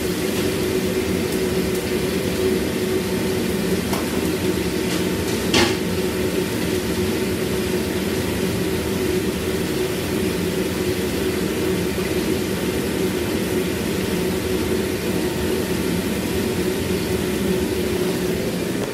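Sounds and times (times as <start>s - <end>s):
gas wok range roaring: 0.0s - 18.9s.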